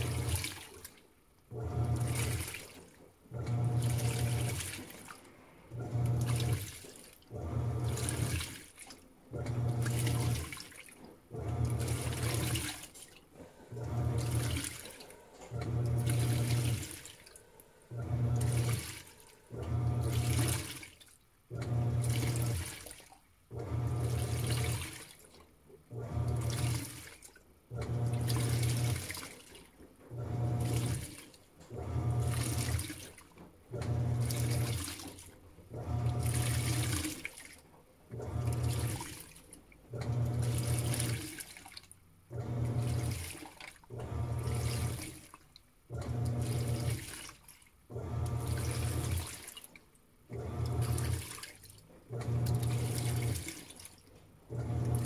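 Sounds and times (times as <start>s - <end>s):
washing machine motor humming: 0.0s - 49.5s, 50.2s - 55.0s
water and clothes churning: 0.0s - 55.0s.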